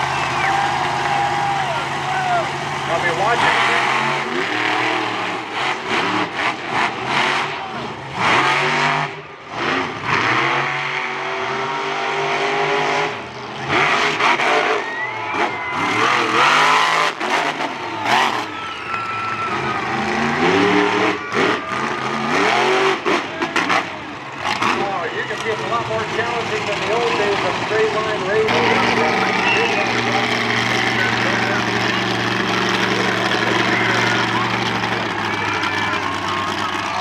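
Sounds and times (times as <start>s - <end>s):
monster truck engines revving: 0.0s - 37.0s.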